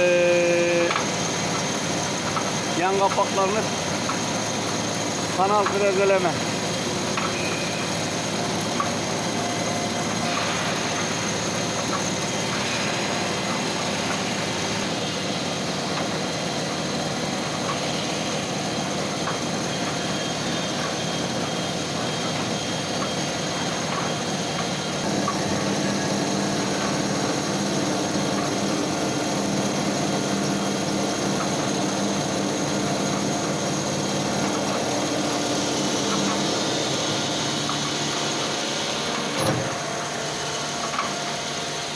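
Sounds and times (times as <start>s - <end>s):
milling machine cutting: 0.0s - 15.4s, 19.7s - 41.9s.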